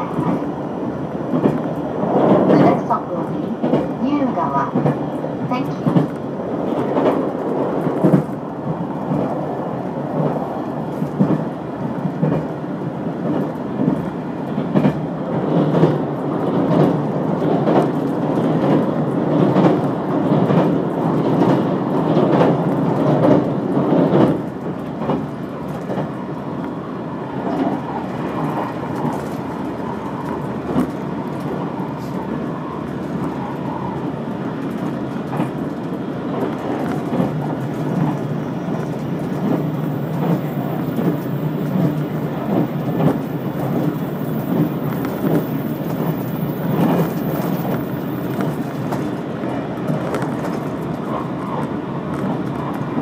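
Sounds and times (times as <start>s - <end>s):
train knocks and clacks: 0.0s - 53.0s
train wheels rumbling on rail: 0.0s - 53.0s.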